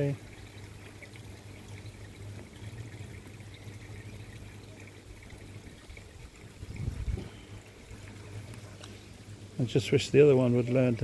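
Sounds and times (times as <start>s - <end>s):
low steady hum: 0.0s - 11.0s
water trickling and splashing: 0.0s - 11.0s.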